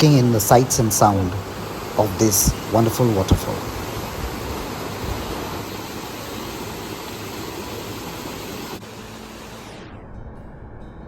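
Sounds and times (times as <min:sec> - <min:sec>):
waterfall roaring: 0:00.0 - 0:09.8.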